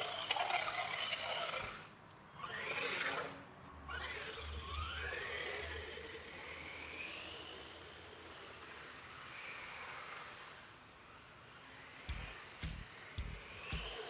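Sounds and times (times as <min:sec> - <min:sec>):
toy truck electric motors whining: 0:00.0 - 0:14.0.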